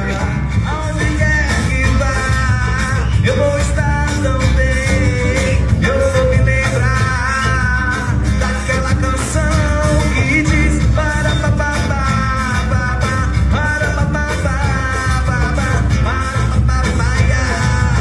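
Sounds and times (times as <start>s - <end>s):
acoustic guitar: 0.0s - 18.0s
electric bass: 0.0s - 18.0s.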